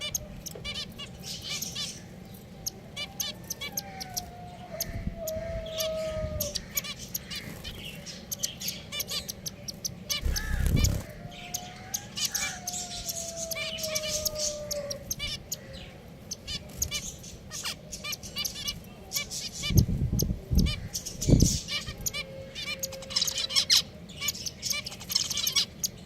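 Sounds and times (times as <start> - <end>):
finches chirping: 0.0 - 26.0.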